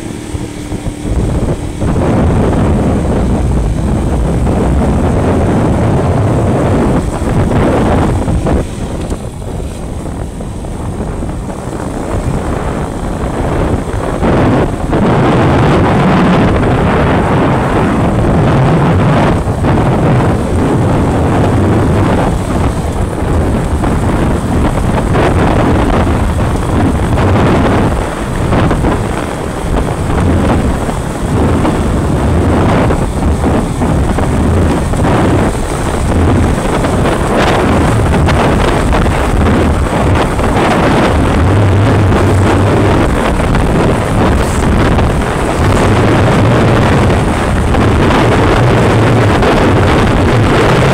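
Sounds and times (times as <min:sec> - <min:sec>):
motorcycle engine: 0:00.0 - 0:50.9
road noise: 0:00.0 - 0:50.9
wind buffeting microphone: 0:00.0 - 0:50.9.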